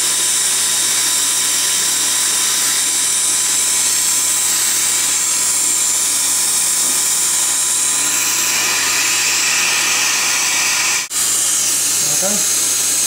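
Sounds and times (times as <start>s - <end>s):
dental equipment hissing: 0.0s - 13.0s.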